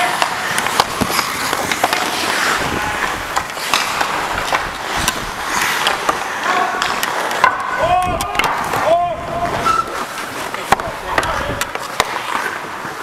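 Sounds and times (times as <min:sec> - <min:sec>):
sticks and puck clicking: 0:00.0 - 0:08.9, 0:09.7 - 0:13.0
skate blades scraping ice: 0:00.0 - 0:13.0.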